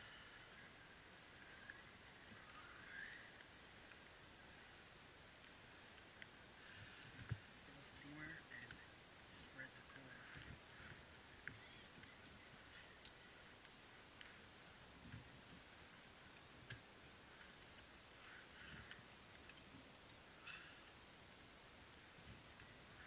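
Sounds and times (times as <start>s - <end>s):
wood fire clicks and pops: 0.1s - 23.0s.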